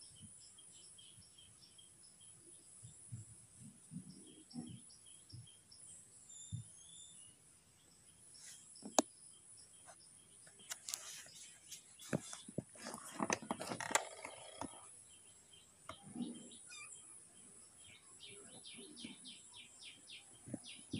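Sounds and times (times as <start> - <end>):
bird chirping: 0.0 - 20.9.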